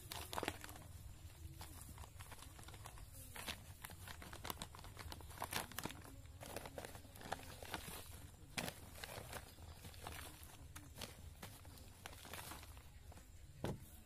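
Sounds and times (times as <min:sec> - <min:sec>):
plastic bags crinkling: 0:00.0 - 0:13.6
soil rustling: 0:00.0 - 0:14.0.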